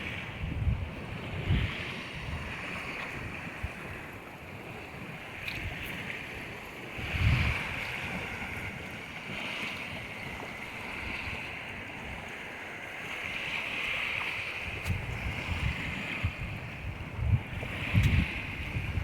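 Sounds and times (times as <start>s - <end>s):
sea surf washing ashore: 0.0s - 19.0s
wind on microphone: 0.0s - 19.0s.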